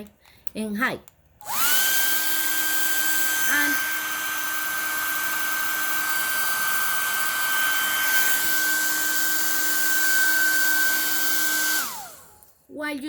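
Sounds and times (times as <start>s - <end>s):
hair dryer running: 1.4s - 12.5s.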